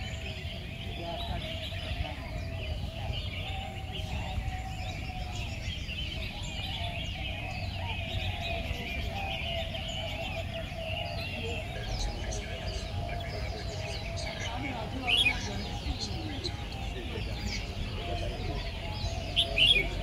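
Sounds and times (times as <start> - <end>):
songbirds chirping and warbling: 0.0 - 20.0.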